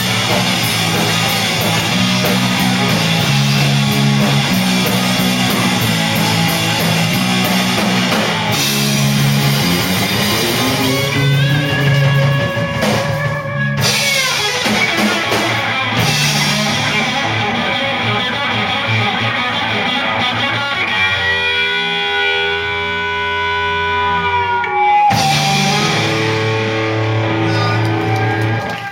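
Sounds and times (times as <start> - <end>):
live rock band: 0.0 - 28.9.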